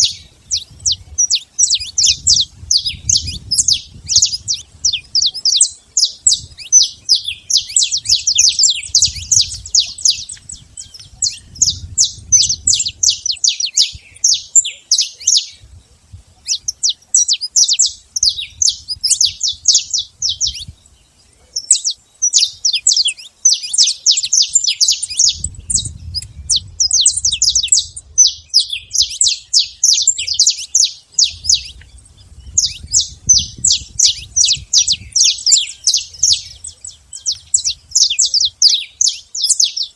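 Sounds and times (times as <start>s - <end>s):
finch singing sharp chirps: 0.0s - 15.6s, 16.4s - 20.8s, 21.6s - 39.9s.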